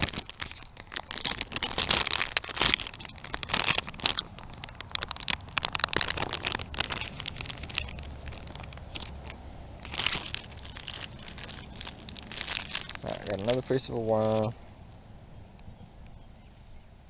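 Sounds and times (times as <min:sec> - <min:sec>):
crinkling of bait packaging: 0:00.0 - 0:16.3.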